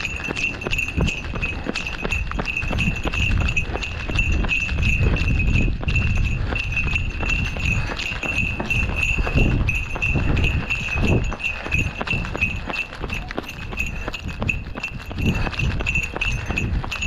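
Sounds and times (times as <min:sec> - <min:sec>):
running footsteps on cobblestones: 0:00.0 - 0:17.0
wind rumble on microphone: 0:00.0 - 0:17.0.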